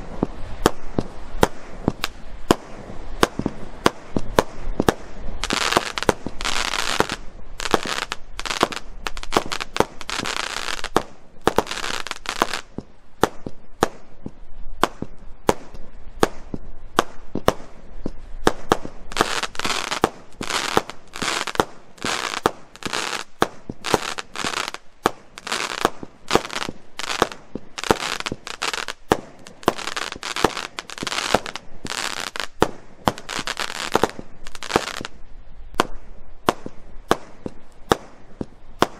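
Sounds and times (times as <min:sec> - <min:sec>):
fireworks firing: 0:00.0 - 0:38.9.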